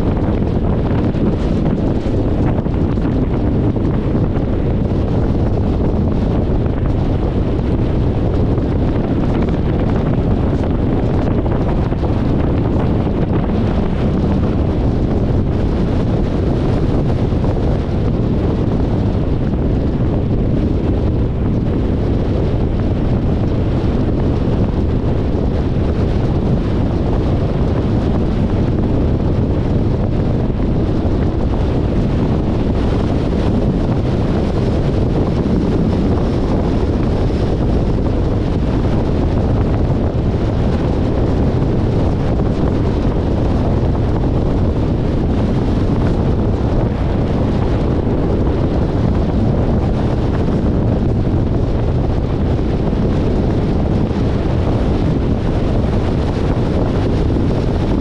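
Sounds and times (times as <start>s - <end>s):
car road noise: 0.0s - 58.0s
wind rushing over microphone: 0.0s - 58.0s.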